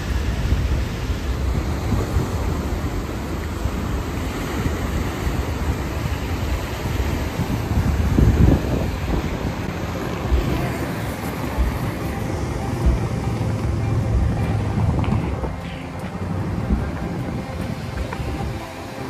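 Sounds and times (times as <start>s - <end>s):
road traffic passing: 0.0s - 19.0s
surf washing: 0.0s - 19.0s
wind rumbling on microphone: 0.0s - 19.0s.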